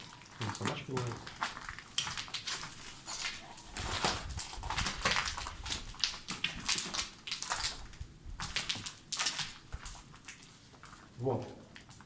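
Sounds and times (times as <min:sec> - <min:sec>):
footsteps crunching over debris: 0:00.0 - 0:12.0.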